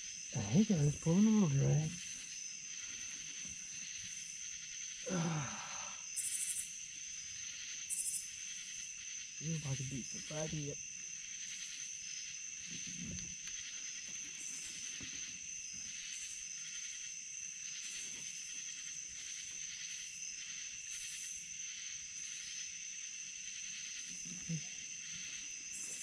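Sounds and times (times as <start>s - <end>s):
insects trilling: 0.0s - 26.0s
pulsing insect calls: 0.0s - 26.0s.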